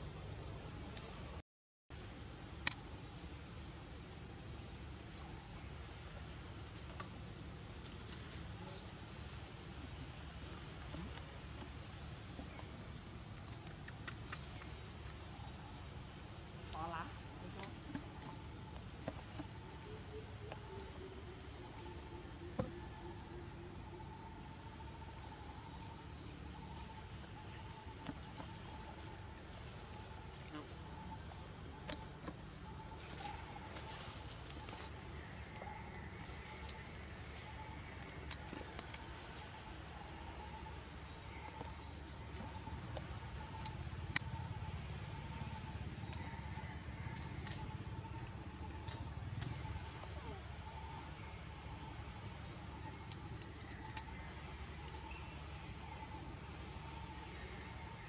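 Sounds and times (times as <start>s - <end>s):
high-pitched insect chorus: 0.0s - 58.0s
low pulsing insect call: 0.0s - 58.0s.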